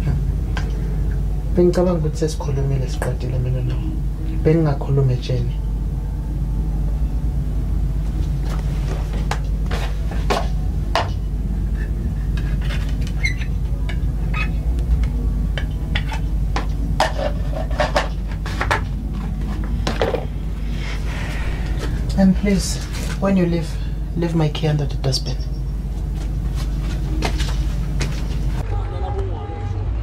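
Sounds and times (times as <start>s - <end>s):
steady low hum: 0.0s - 28.8s.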